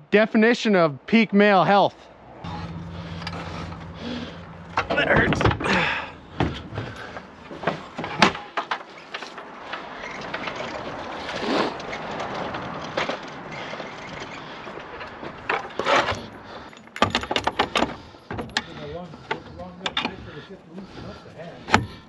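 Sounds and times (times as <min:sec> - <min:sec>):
metal dolly frame clanking: 0:02.4 - 0:22.0.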